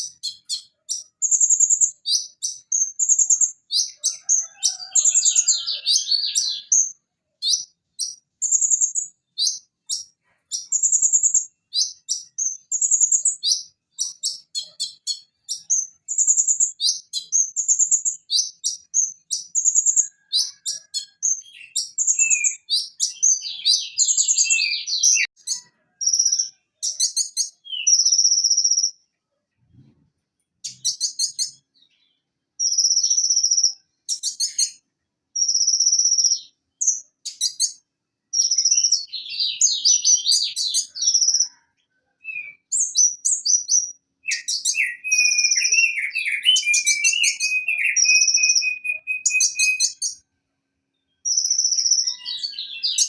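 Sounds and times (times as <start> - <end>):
bird singing chirps and trills: 0.0 - 29.0, 30.6 - 34.8, 35.4 - 37.8, 38.4 - 41.6, 42.2 - 50.2, 51.0 - 53.0.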